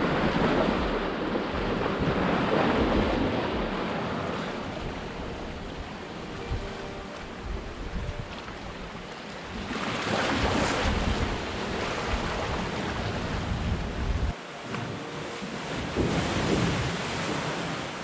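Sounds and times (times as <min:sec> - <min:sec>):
sea waves breaking over rocks: 0:00.0 - 0:18.0
wind buffeting microphone: 0:00.0 - 0:18.0.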